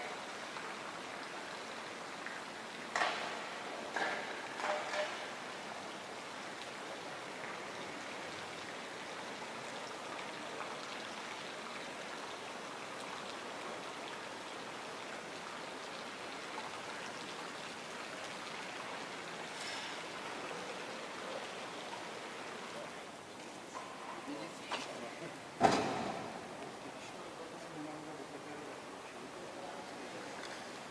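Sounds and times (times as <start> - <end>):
steady outdoor hiss: 0.0 - 30.9.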